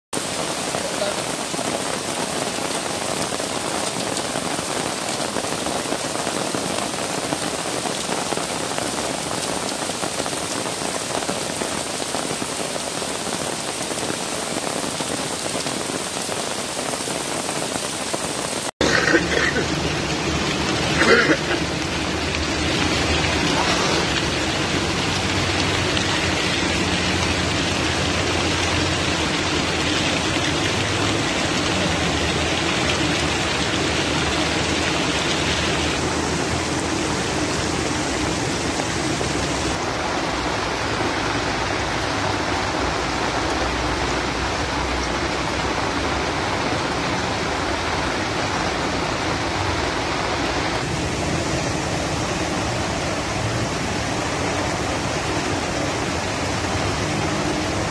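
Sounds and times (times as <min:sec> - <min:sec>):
heavy rain pouring: 0:00.1 - 0:57.9.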